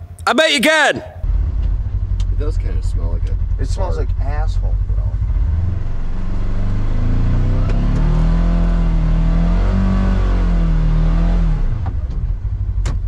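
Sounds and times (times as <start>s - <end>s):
engine revving: 1.3s - 12.7s.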